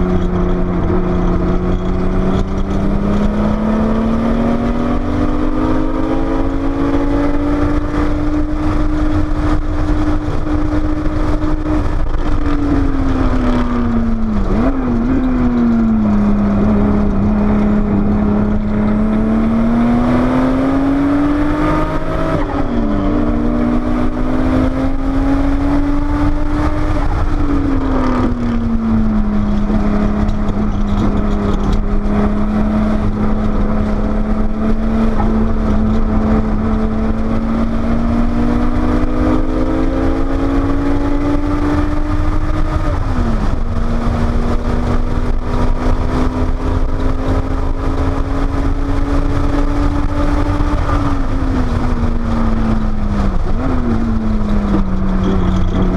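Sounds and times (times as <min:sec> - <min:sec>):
car engine at speed: 0:00.0 - 0:55.9
wind and road noise: 0:00.0 - 0:55.9.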